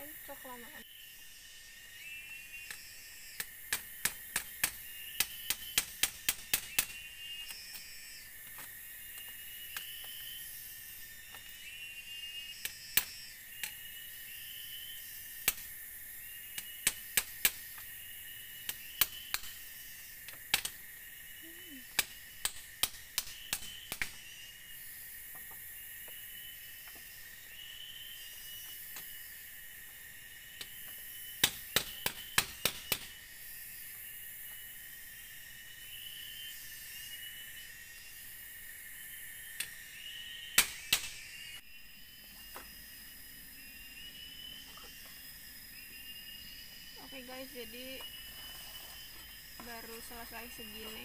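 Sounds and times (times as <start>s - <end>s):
forest insects droning: 0.0s - 51.0s.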